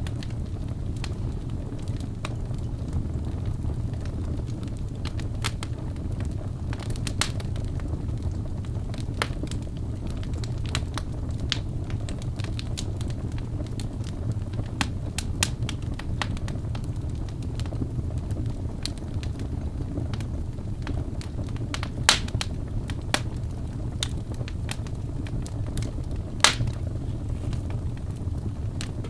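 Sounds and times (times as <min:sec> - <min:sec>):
fire crackling and popping: 0:00.0 - 0:29.0
low rumble of burning fire: 0:00.0 - 0:29.0.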